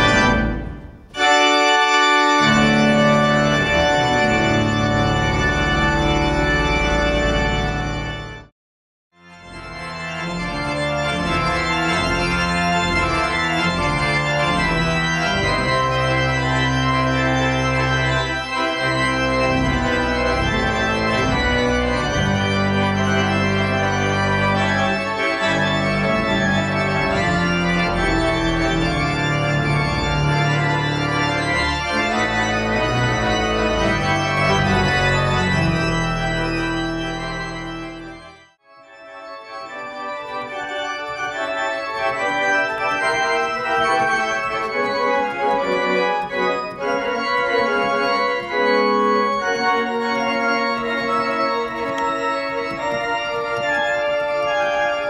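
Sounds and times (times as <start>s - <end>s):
pipe organ sustained chords: 0.0s - 8.5s, 9.2s - 55.0s.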